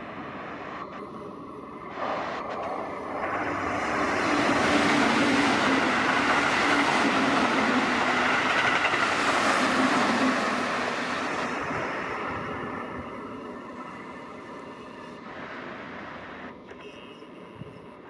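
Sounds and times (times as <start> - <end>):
train wheels rumbling on rails: 1.8 - 16.4.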